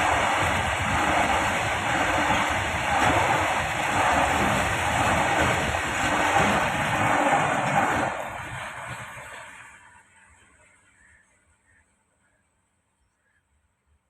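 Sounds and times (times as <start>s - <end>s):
train rolling past: 0.0s - 11.7s.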